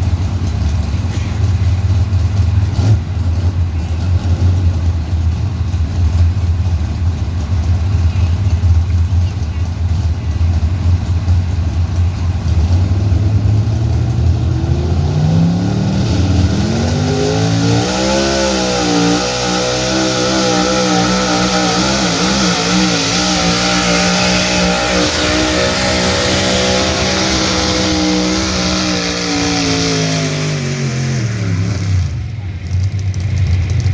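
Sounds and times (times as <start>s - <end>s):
pulling truck engine revving: 0.0s - 33.9s.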